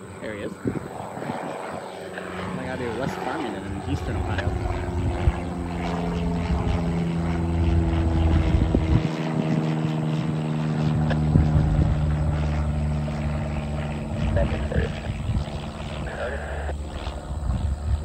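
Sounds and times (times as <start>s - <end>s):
propeller airplane droning: 0.0s - 18.0s.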